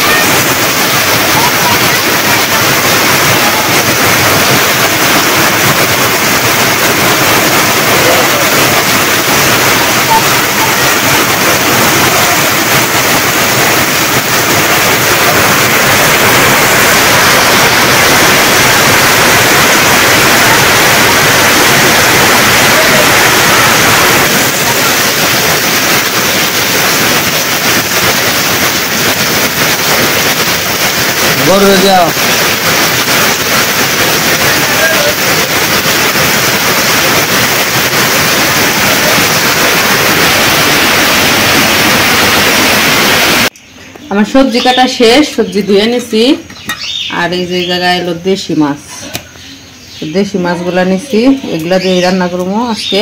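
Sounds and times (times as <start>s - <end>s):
water pouring off roof edges: 0.0s - 43.6s
heavy rain on a tin roof: 0.0s - 47.8s, 49.0s - 53.0s.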